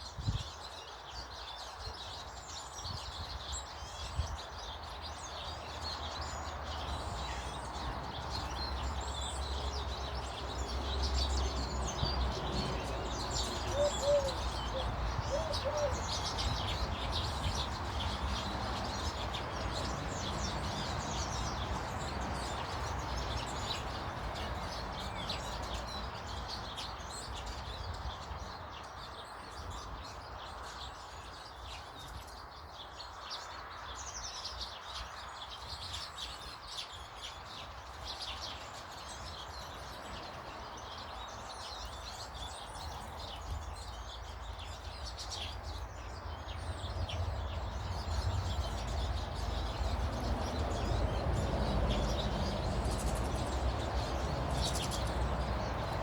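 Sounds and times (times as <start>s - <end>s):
birds chirping and twittering: 0.0s - 56.0s.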